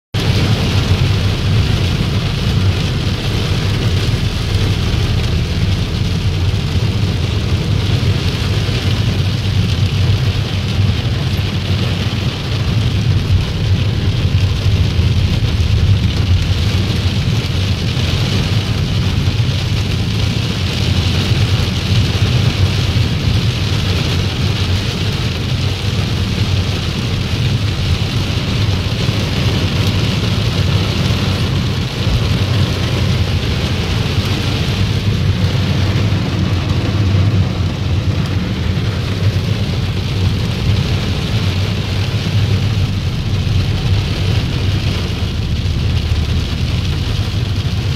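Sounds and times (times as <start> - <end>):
car engine and tyres rumbling: 0.1 - 47.9
heavy rain on car roof: 0.1 - 47.9.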